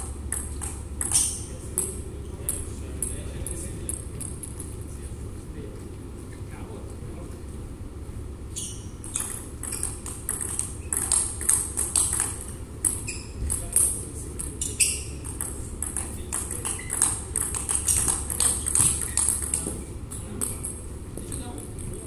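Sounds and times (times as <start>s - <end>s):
table tennis ball clicking: 0.0s - 4.8s, 9.0s - 22.0s.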